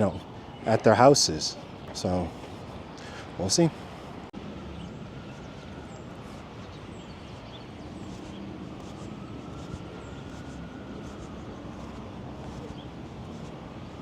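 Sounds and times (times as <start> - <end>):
traffic rumble: 0.0 - 14.0
vehicle engine low hum: 0.0 - 14.0.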